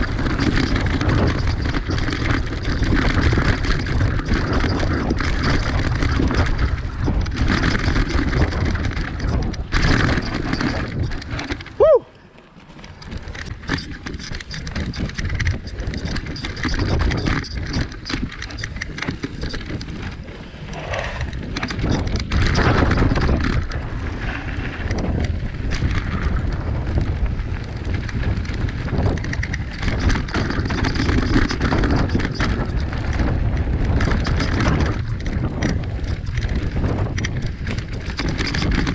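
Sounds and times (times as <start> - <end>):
wind on microphone: 0.0 - 12.1, 13.0 - 38.9
bike rattles and knocks: 0.0 - 38.9
bike tyres rumbling over dirt: 0.0 - 38.9.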